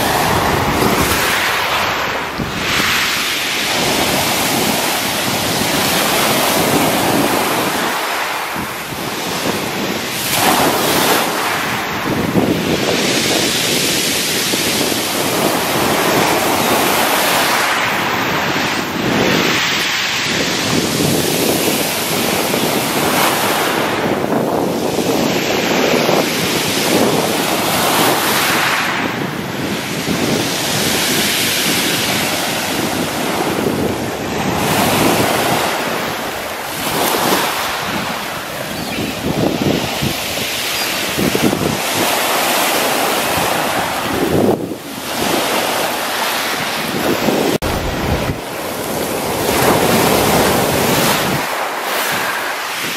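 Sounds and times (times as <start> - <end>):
waves washing over pebbles: 0.0 - 52.9
wind rumbling on microphone: 0.0 - 52.9.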